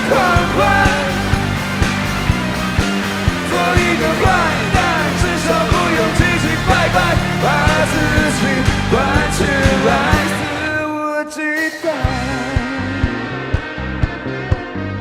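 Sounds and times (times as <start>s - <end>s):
bending lead guitar melody: 0.0s - 10.9s, 12.0s - 15.0s
rock band playing live: 0.0s - 10.9s, 11.6s - 15.0s.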